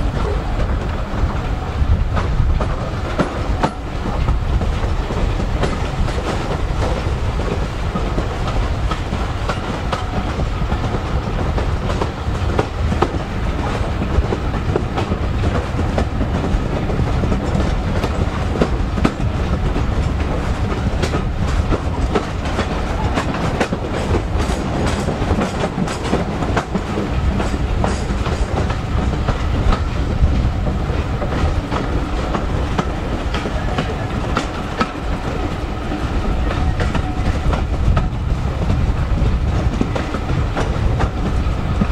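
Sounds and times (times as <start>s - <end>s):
steel wheels rumbling on rail: 0.0s - 41.9s
wheels clattering on rail joints: 0.0s - 41.9s.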